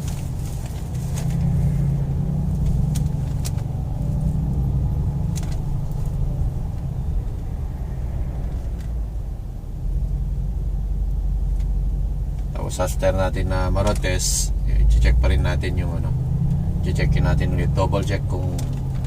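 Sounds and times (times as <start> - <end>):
suv engine low rumble: 0.0 - 19.0.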